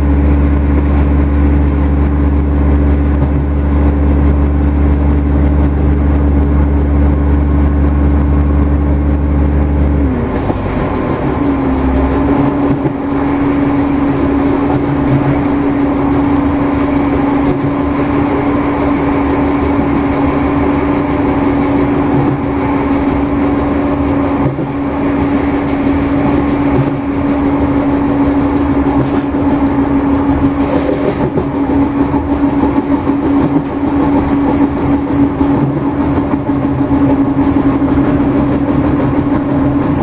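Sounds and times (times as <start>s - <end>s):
diesel train engine drone: 0.0s - 40.0s
wheels rumbling on rail: 0.0s - 40.0s.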